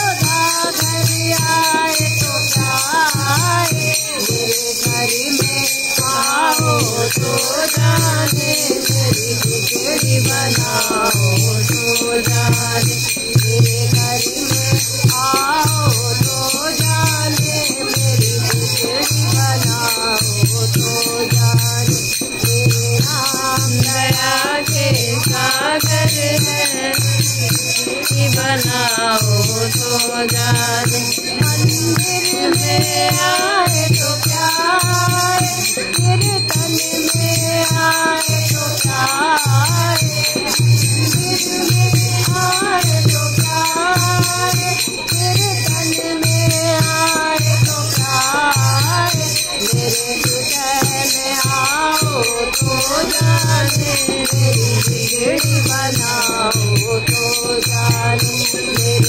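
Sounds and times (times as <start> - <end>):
group singing devotional song: 0.0 - 59.0
jingling percussion: 0.0 - 59.0.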